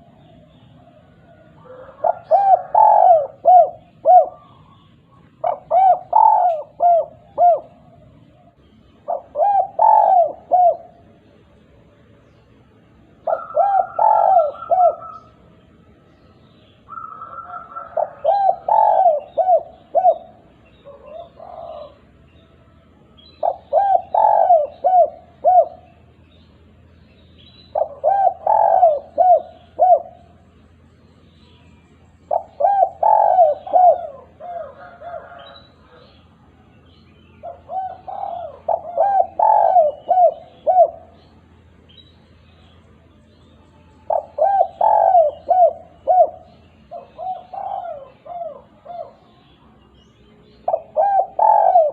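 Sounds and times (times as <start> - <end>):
dove cooing: 0.0 - 11.2, 13.0 - 15.7, 16.8 - 22.3, 23.2 - 30.8, 32.2 - 36.6, 37.2 - 42.8, 44.0 - 49.5, 50.6 - 51.9
small birds chirping: 0.0 - 51.9.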